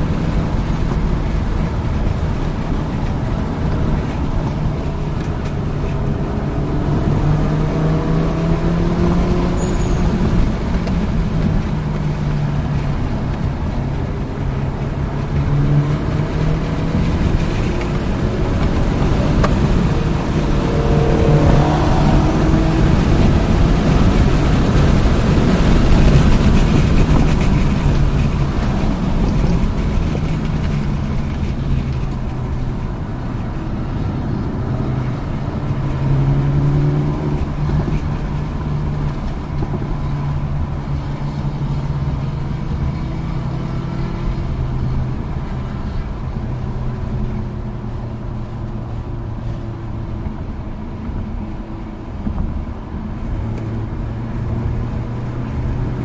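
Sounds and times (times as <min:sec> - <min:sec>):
car engine accelerating hard: 0:00.0 - 0:56.0
road and wind noise: 0:00.0 - 0:56.0.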